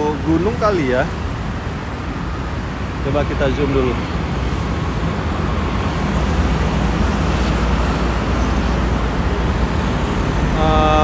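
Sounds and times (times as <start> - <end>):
road traffic rumble and hiss: 0.0 - 11.0.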